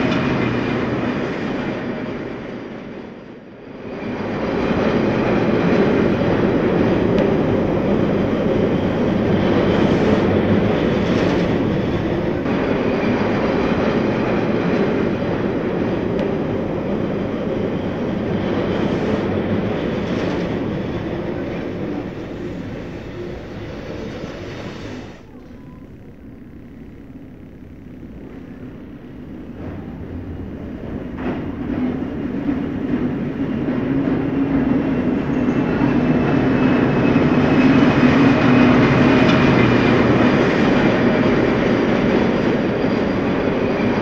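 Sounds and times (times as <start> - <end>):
steam train running rumble: 0.0 - 26.9, 27.8 - 44.0
rail noise: 0.0 - 44.0.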